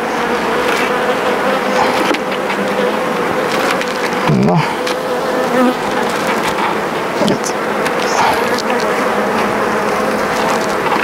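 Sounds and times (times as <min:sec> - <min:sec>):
bee flying close: 0:00.0 - 0:11.0
honeybees buzzing: 0:00.0 - 0:11.0.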